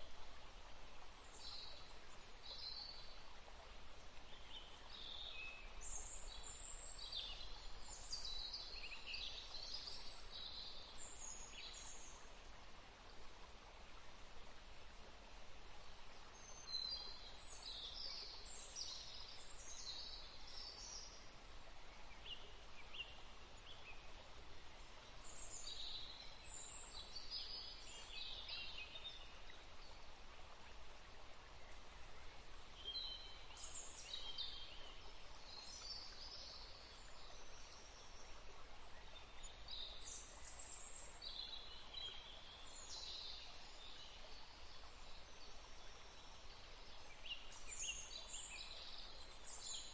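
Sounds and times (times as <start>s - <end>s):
faint outdoor hiss: 0.0s - 49.9s.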